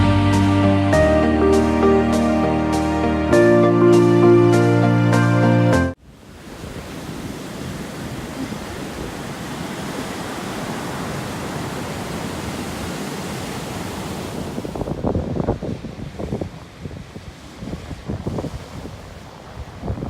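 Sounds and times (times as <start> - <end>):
ocean surf rushing: 0.0 - 20.0.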